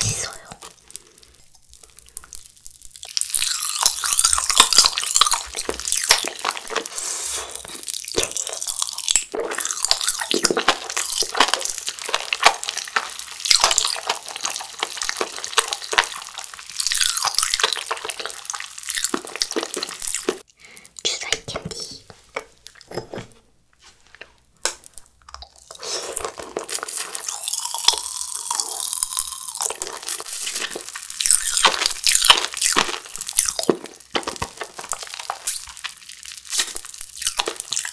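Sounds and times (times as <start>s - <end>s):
crunching and wet chewing: 0.0s - 20.5s, 22.3s - 23.3s, 24.1s - 37.9s
sugar glaze cracking: 0.0s - 20.5s, 24.2s - 37.9s.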